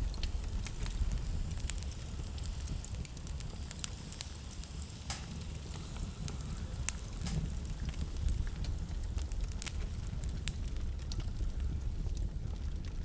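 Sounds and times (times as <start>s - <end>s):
fire crackles and pops: 0.0s - 13.0s
low rumble of flames: 0.0s - 13.0s.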